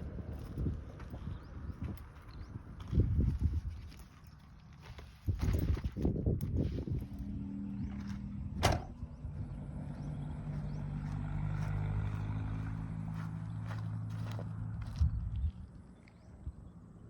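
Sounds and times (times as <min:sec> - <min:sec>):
vehicle engine humming: 0:00.0 - 0:05.3, 0:06.0 - 0:17.0.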